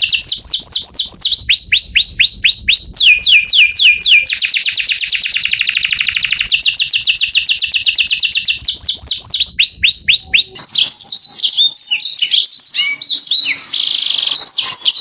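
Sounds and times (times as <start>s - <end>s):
canary singing trill: 0.0s - 15.0s.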